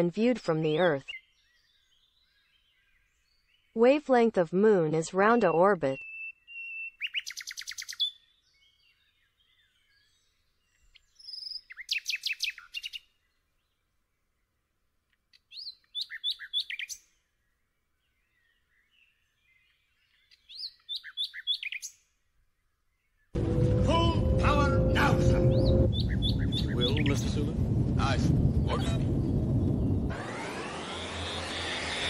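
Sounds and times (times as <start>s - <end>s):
songbird chirping: 0.0s - 32.0s.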